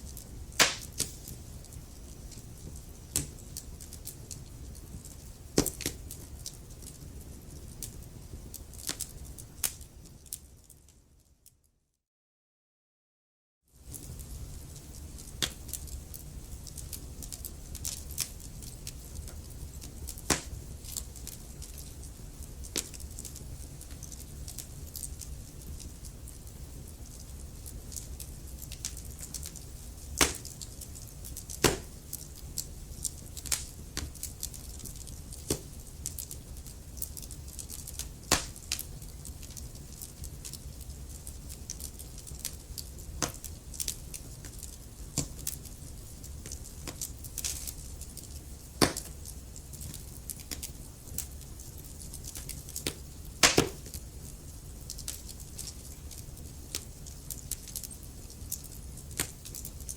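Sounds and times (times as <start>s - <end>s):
wood fire crackling and popping: 0.0s - 11.6s, 13.8s - 59.9s.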